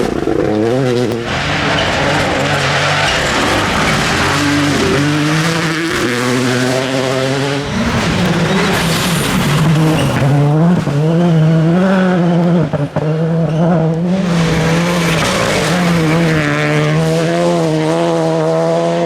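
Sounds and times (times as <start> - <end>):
tyres rushing on gravel: 0.0 - 18.2
rally car engine revving: 0.0 - 19.0.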